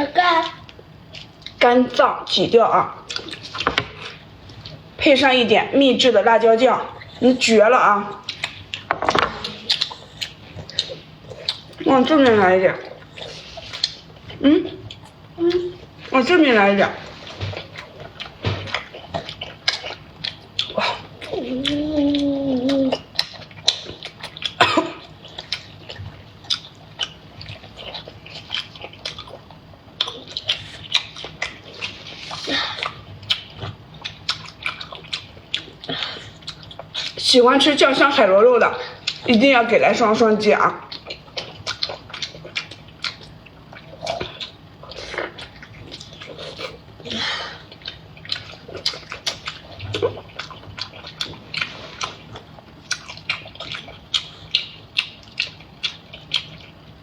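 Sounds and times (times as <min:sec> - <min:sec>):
person chewing wetly: 0:00.4 - 0:05.0, 0:08.1 - 0:16.1, 0:17.0 - 0:37.2, 0:38.9 - 0:39.5, 0:40.8 - 0:57.0.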